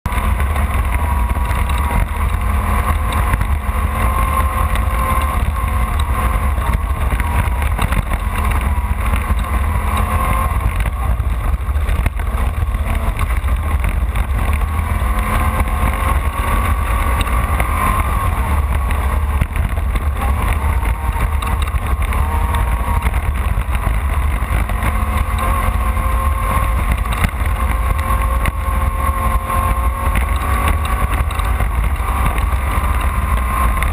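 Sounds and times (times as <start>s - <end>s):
race car engine running: 0.0s - 33.9s.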